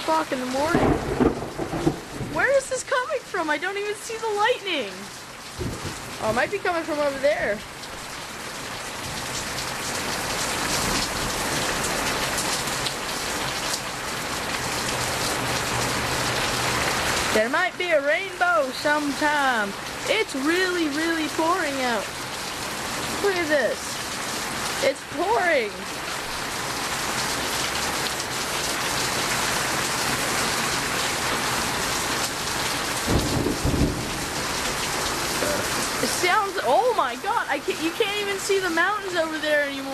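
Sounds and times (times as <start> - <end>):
heavy rain pouring: 0.0 - 39.9
raindrops striking close by: 0.0 - 39.9.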